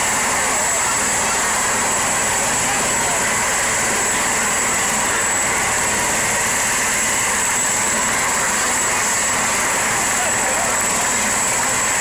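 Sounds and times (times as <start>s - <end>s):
helicopter turbine and rotor: 0.0s - 12.0s
high-pitched turbine whine: 0.0s - 12.0s.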